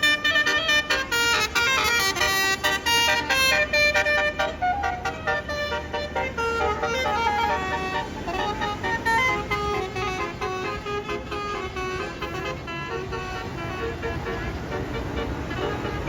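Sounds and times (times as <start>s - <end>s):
bus musical horn tune: 0.0s - 16.0s.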